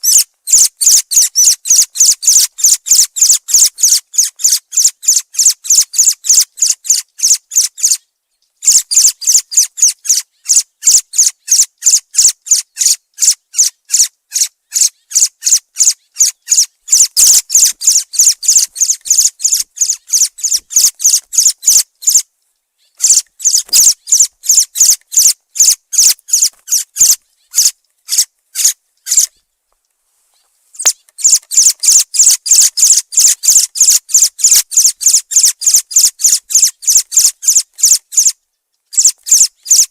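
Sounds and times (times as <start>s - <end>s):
thrush calling: 0.0s - 8.0s, 8.6s - 29.4s, 30.8s - 39.9s.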